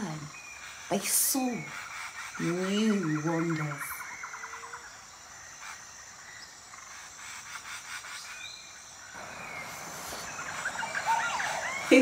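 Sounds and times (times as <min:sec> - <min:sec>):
faint jungle ambience: 0:00.0 - 0:12.0.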